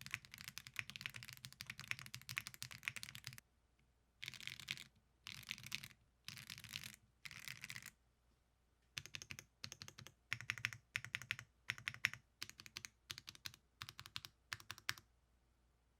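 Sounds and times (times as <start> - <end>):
mechanical keyboard typing: 0.0 - 3.4, 4.2 - 7.9, 9.0 - 15.0.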